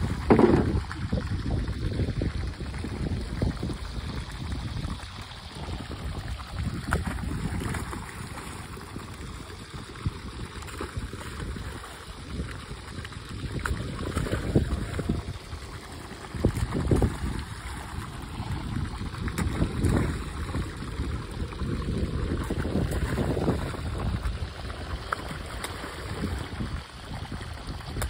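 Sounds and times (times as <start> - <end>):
fish splashing in water: 0.0 - 28.0
wind buffeting microphone: 0.0 - 28.0.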